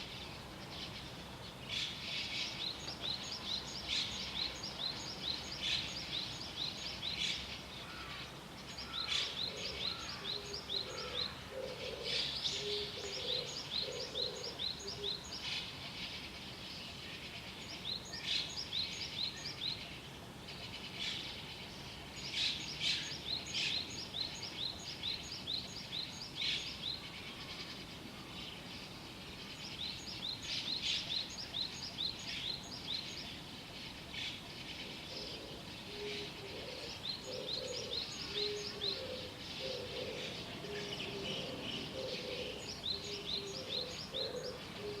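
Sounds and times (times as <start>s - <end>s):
faint steady hiss: 0.0s - 45.0s
small birds twittering: 0.0s - 45.0s.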